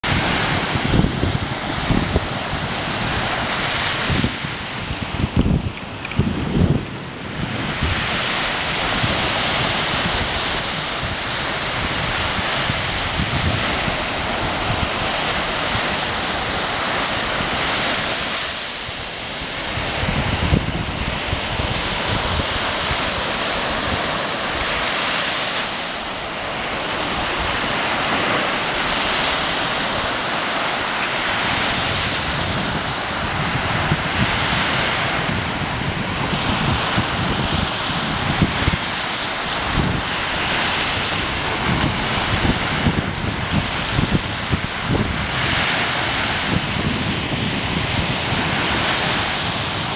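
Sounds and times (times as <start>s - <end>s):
waves breaking on sandy shore: 0.0s - 49.9s
wind buffeting microphone: 0.0s - 49.9s.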